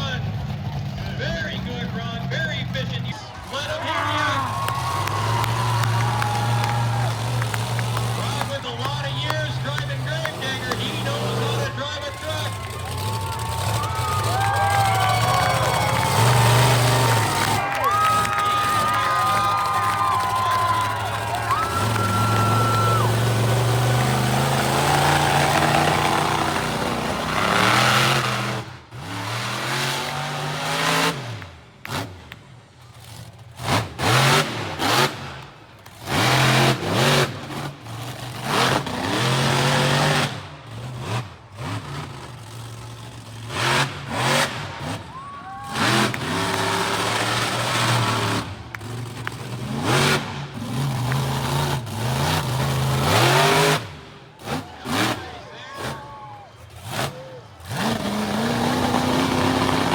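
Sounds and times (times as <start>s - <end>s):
monster truck engine revving: 0.0s - 59.9s.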